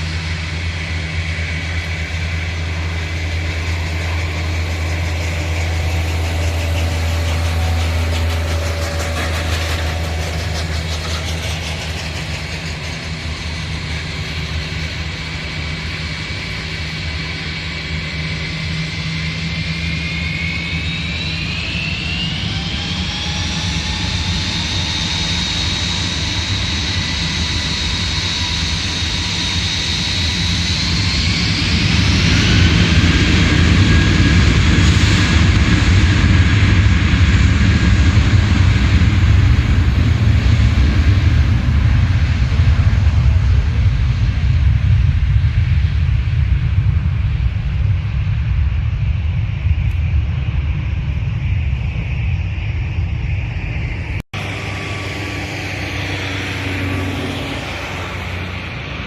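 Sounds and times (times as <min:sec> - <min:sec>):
jet engine low roar: 0:00.0 - 0:59.0
jet engine whine: 0:00.0 - 0:59.0.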